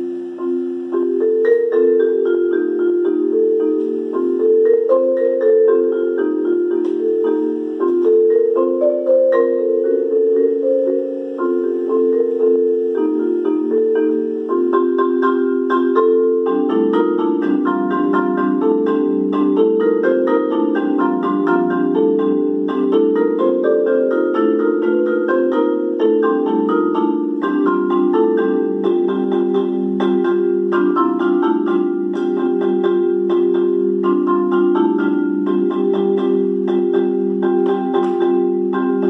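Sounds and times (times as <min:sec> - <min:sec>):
marimba rolled chords: 0:00.0 - 0:39.0.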